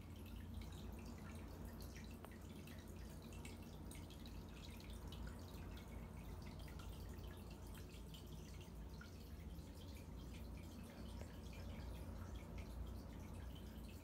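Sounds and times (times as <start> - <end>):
steady low hum: 0.0 - 14.0
water trickling and dripping: 0.0 - 14.0.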